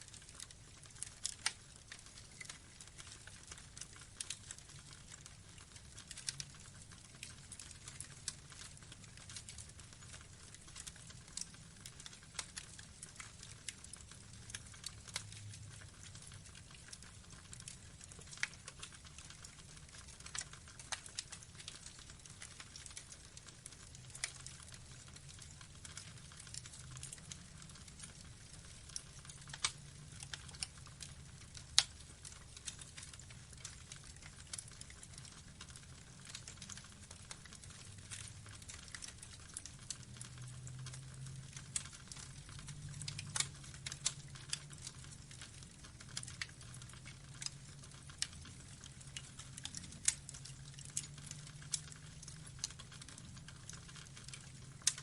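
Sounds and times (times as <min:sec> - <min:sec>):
burning logs crackling: 0:00.0 - 0:55.0
low rumble of fire: 0:00.0 - 0:55.0.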